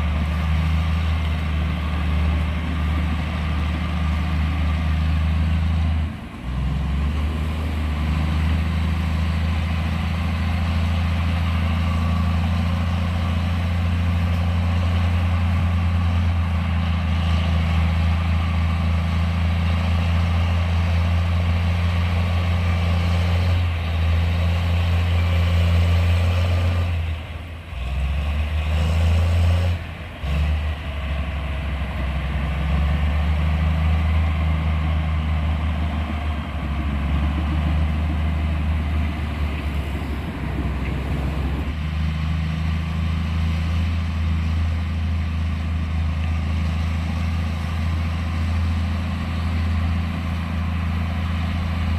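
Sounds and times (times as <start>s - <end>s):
diesel engine rumbling: 0.0s - 51.9s.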